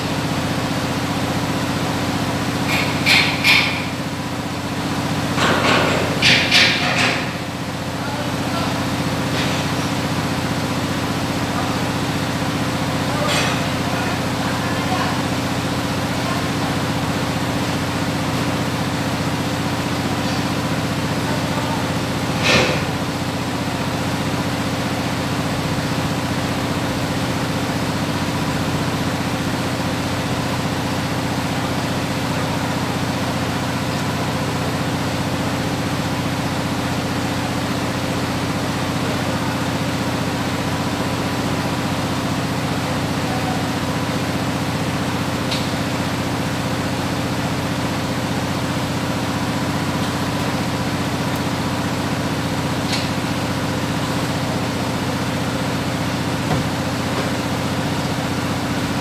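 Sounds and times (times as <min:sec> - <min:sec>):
heavy engine idling: 0:00.0 - 0:59.0.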